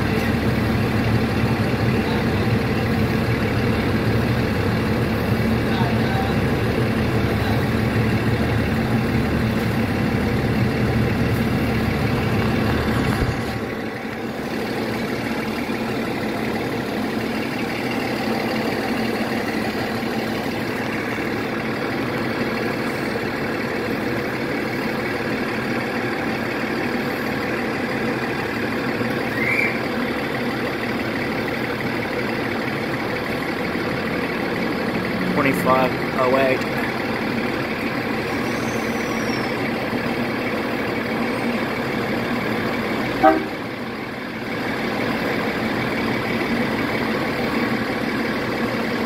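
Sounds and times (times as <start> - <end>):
diesel train engine idling: 0.0 - 49.0.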